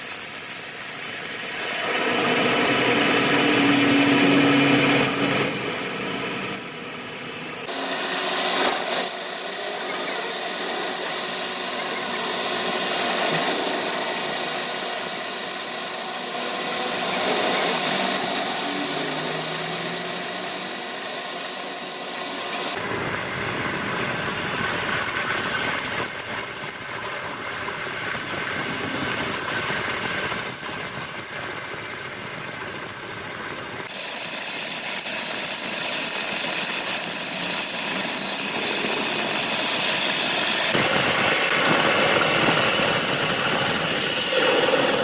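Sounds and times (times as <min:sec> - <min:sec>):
machinery rattling and squealing: 0:00.0 - 0:01.1, 0:02.0 - 0:07.7, 0:13.1 - 0:45.0.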